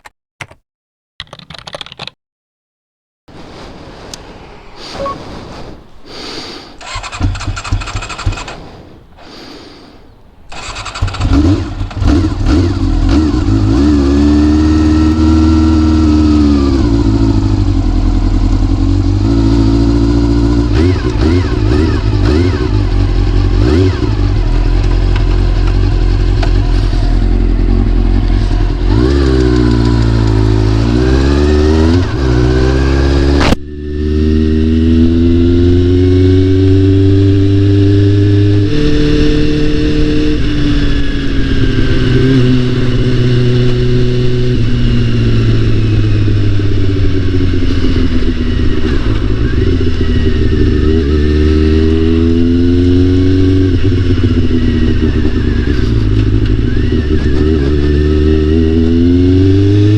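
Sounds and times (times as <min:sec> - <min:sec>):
motorcycle engine running: 0:06.9 - 0:08.6, 0:10.5 - 0:59.9.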